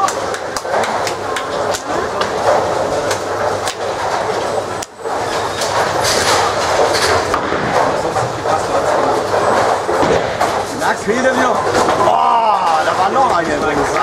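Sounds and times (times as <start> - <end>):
bowling balls rolling on lanes: 0.0 - 14.0.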